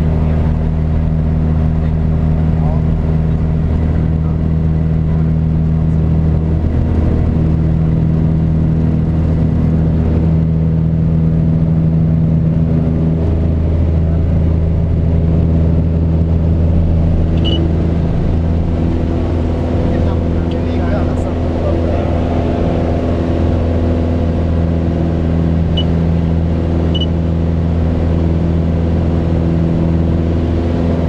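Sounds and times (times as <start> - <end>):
propeller plane engine at high power: 0.0 - 31.0.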